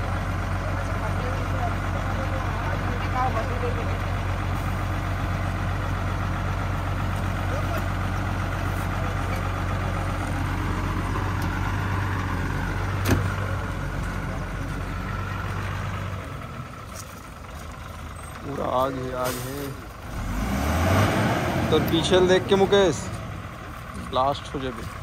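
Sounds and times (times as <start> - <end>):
drilling rig engine humming: 0.0 - 25.0.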